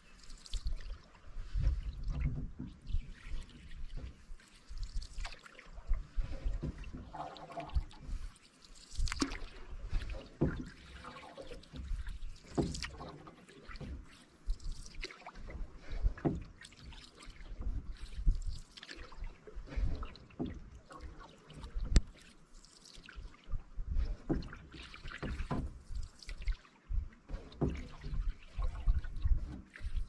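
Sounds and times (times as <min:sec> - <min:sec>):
water dripping off paddle: 0:00.0 - 0:23.5, 0:24.1 - 0:26.7, 0:27.3 - 0:30.0
canoe paddle strokes in water: 0:00.0 - 0:30.0.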